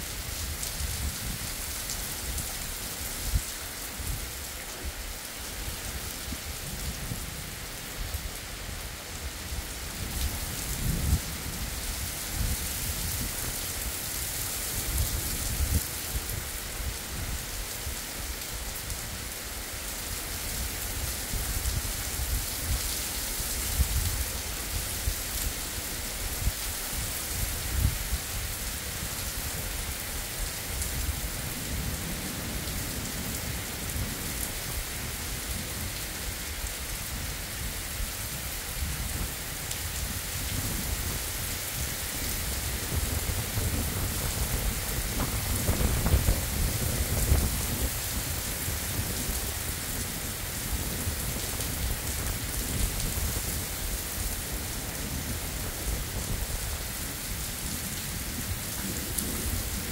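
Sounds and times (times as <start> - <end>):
heavy rain on flooded road: 0.0 - 59.9.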